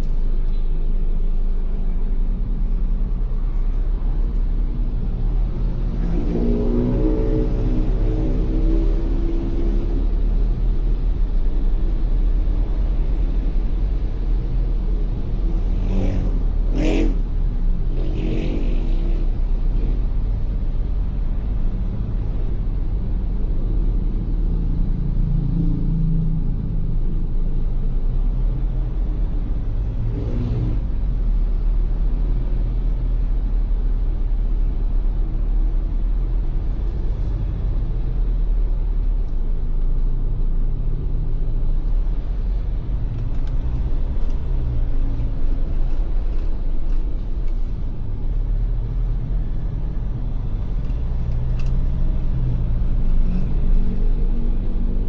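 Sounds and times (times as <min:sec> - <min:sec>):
car engine and tyre noise: 0:00.0 - 0:55.0
vehicles passing: 0:00.0 - 0:55.0.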